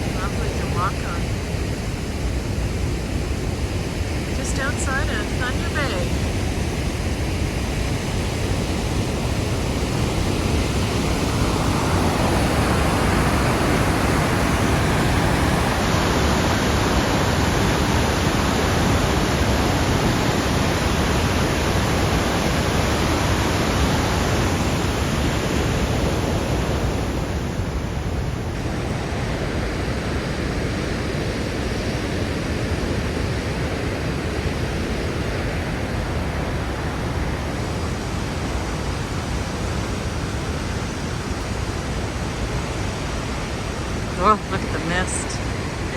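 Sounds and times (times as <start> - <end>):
waterfall roaring: 0.0 - 45.9.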